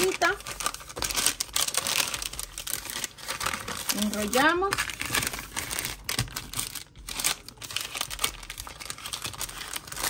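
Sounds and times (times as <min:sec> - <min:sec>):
paper and leaf wrapping crinkling: 0:00.0 - 0:10.0.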